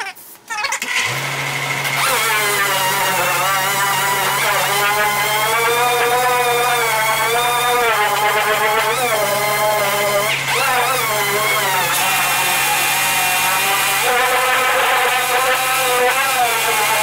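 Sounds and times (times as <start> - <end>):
pneumatic sander whine: 0.8 - 17.0.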